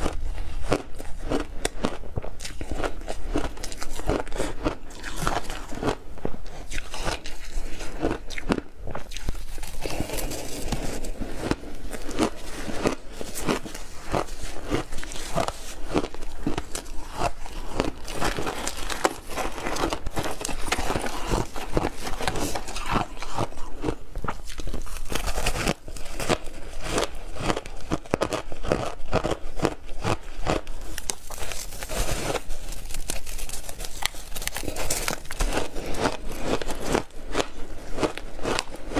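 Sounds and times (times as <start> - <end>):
ice crunching as it is chewed: 0.0 - 38.9.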